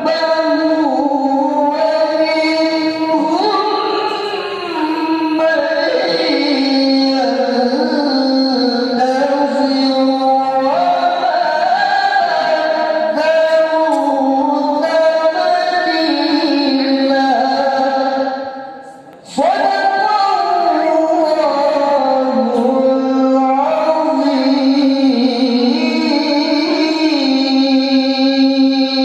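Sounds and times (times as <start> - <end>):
person reciting in melodic chant: 0.0 - 29.0.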